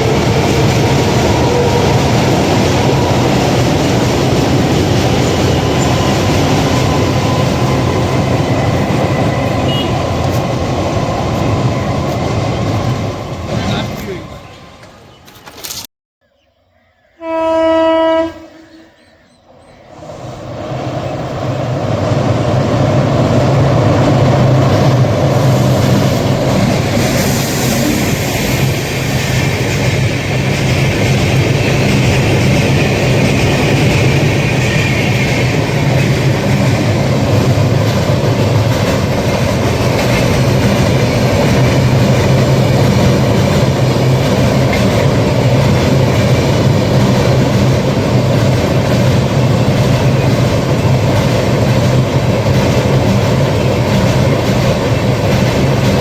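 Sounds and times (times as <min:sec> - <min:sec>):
train wheels clattering over rails: 0:00.0 - 0:15.8, 0:23.2 - 0:56.0.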